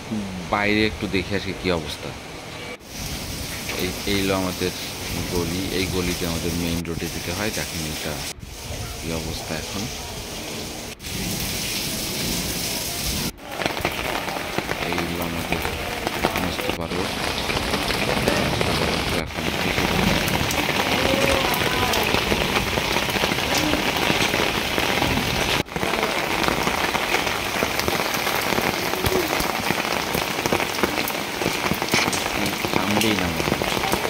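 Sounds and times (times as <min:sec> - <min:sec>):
rain splashing on floodwater: 0:00.0 - 0:34.0.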